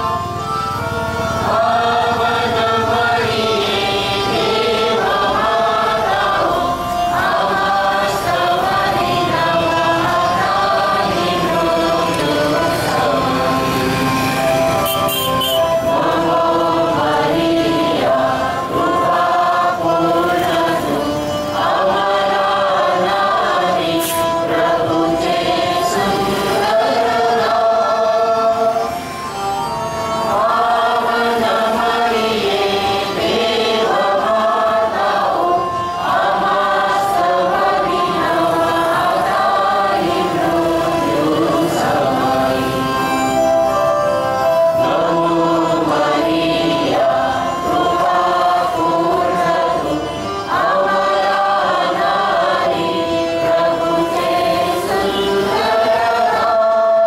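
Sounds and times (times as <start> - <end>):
group singing a hymn: 0.0 - 57.0
instrumental accompaniment: 0.0 - 57.0.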